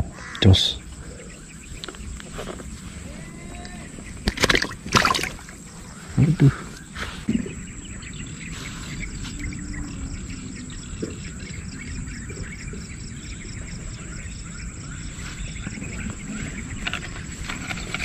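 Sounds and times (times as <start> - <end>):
outdoor ambience: 0.0 - 18.0.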